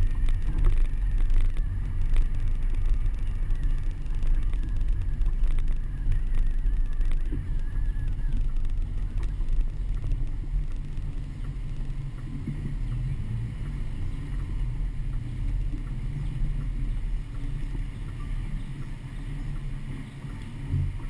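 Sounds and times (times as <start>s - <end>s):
car driving slowly: 0.0s - 21.0s
wind buffeting microphone: 0.0s - 21.0s.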